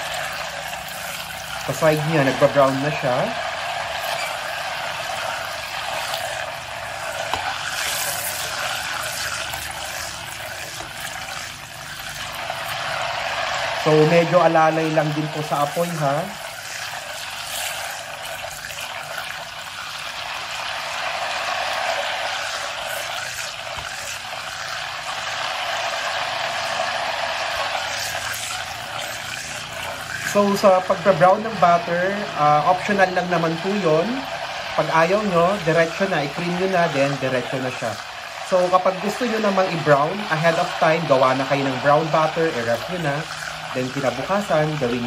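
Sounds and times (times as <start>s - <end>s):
butter sizzling in a saucepan: 0.0s - 45.0s.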